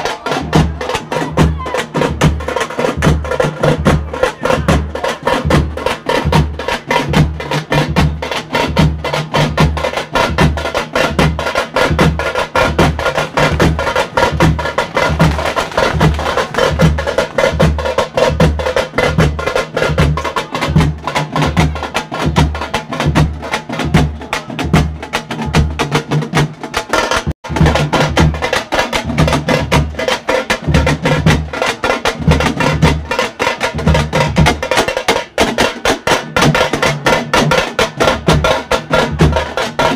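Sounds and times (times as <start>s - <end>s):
fast frame drum strokes: 0.0s - 39.9s.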